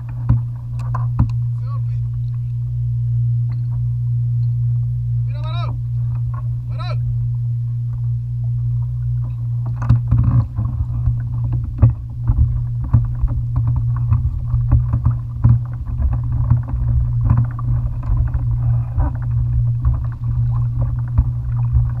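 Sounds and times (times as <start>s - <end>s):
knocks and thumps in kayak: 0.0s - 2.8s, 5.2s - 22.0s
water slapping against kayak hull: 0.0s - 2.8s, 5.3s - 22.0s
steady low rumble: 0.0s - 22.0s.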